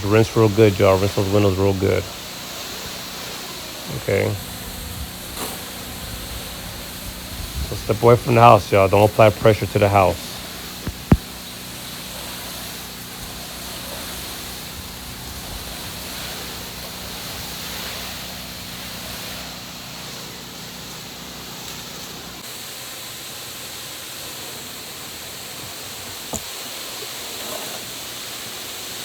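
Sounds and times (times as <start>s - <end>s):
pressure washer spraying water: 0.0s - 29.0s.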